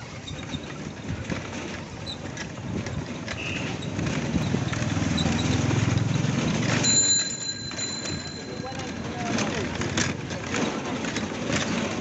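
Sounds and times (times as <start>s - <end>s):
rickshaw rattling: 0.0s - 12.0s.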